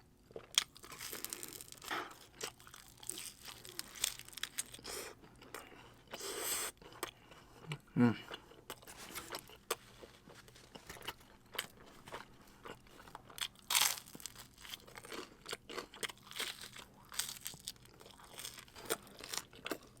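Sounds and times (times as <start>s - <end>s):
crunchy bites and chewing: 0.3s - 7.2s, 10.4s - 20.0s.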